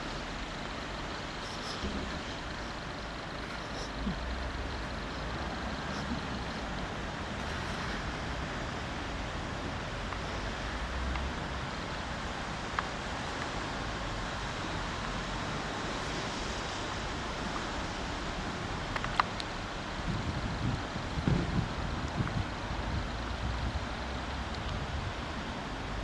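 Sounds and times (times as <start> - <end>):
room noise hiss: 0.0 - 26.0.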